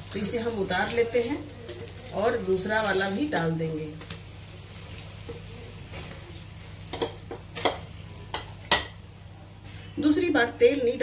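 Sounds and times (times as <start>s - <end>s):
oil sizzling on a hot pan: 0.0s - 11.0s.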